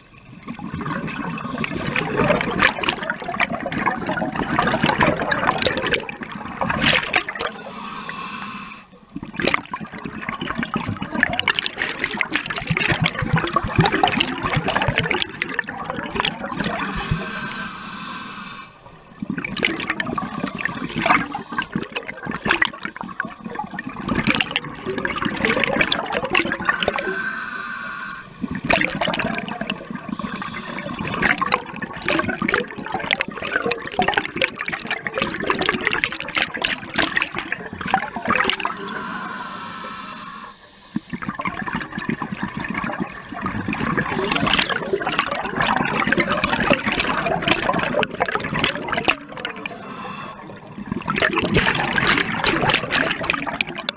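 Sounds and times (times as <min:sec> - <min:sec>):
underwater exhaust bubbles gurgling: 0:00.0 - 0:53.9.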